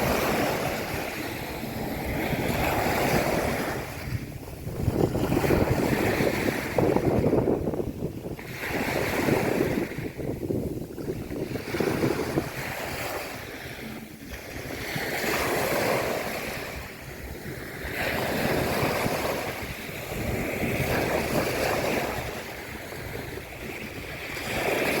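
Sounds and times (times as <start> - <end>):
sea waves washing onto beach: 0.0 - 25.0
wind buffeting microphone: 0.0 - 25.0.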